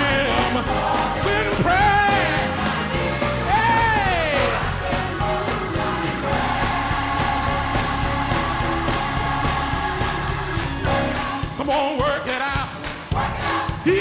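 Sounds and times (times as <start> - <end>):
gospel band playing: 0.0 - 14.0.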